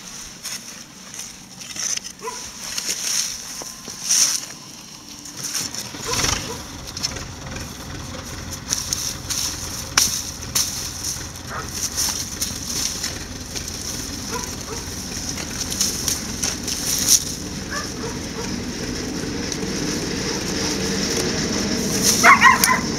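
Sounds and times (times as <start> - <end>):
hoe scraping sandy soil: 0.0 - 22.9.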